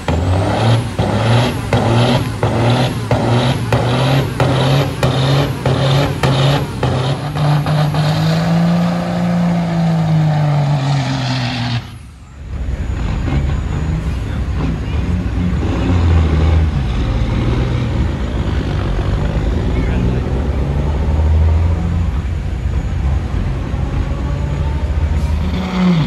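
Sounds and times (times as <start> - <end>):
low engine rumble: 0.0 - 26.0
truck engine revving hard: 0.0 - 26.0.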